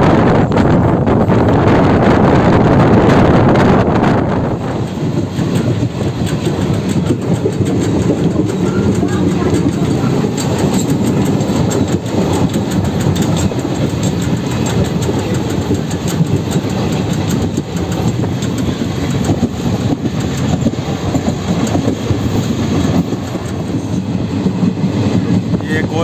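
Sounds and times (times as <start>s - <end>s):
train coach running noise: 0.0s - 26.0s
wheels clicking over rail joints: 4.5s - 25.4s.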